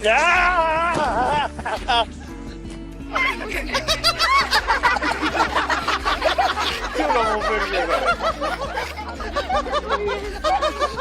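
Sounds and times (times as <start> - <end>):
people laughing: 0.6 - 2.3, 3.1 - 11.0.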